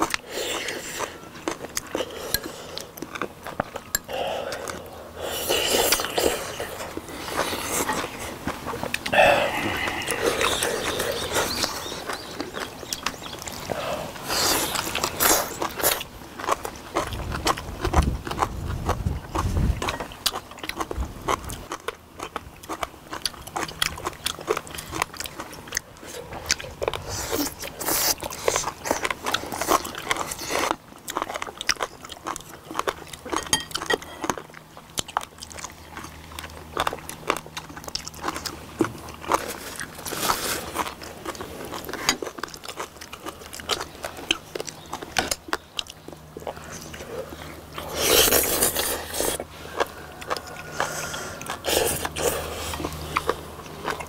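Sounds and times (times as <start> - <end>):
close chewing and biting: 0.0 - 54.0.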